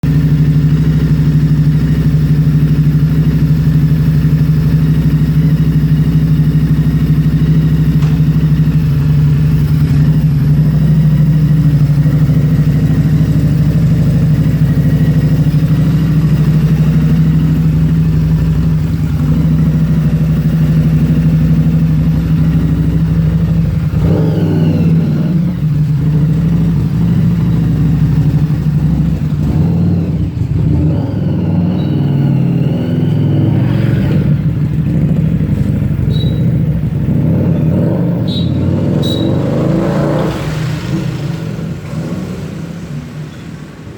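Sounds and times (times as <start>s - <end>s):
motorcycle engine idling: 0.0s - 39.4s.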